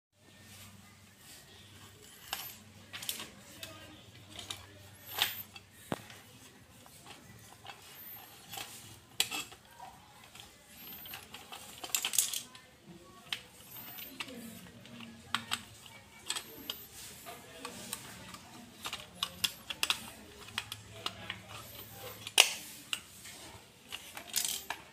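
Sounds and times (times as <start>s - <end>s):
plastic toy clicking and knocking: 2.1s - 24.9s.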